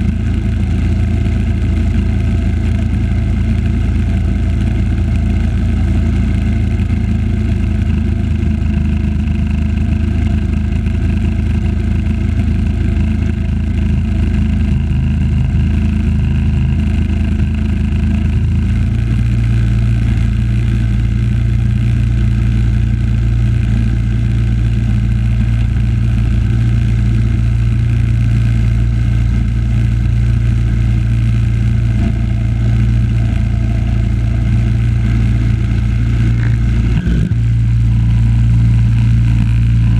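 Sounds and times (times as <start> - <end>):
engine running under load: 0.0 - 39.9.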